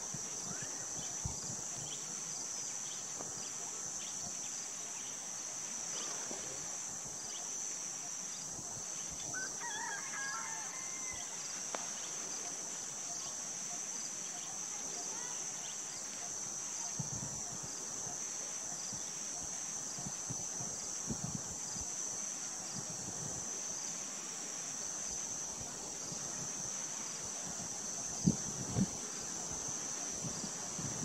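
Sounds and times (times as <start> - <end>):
insect chirps: 0.0 - 31.0
insects droning: 0.0 - 31.0.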